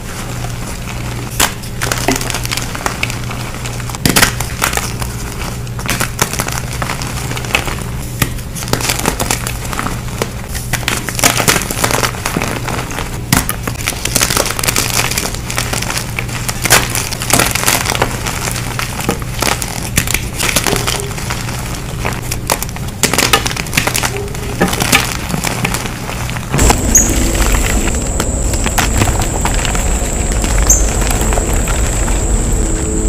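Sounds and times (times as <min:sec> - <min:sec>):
chalk crunching and crumbling: 0:00.0 - 0:28.7.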